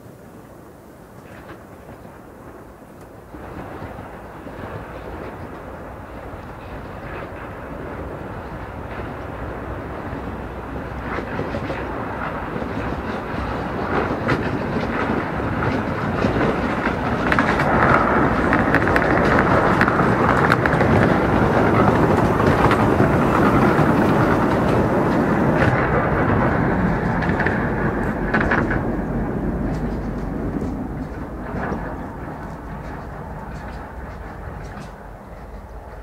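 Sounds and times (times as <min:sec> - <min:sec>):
steam locomotive working: 0:00.0 - 0:36.0
wheels clattering on rails: 0:00.0 - 0:36.0.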